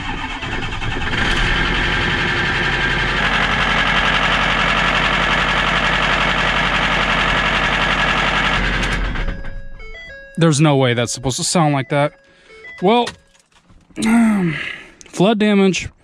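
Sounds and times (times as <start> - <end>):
truck engine starting and running: 0.0 - 15.3.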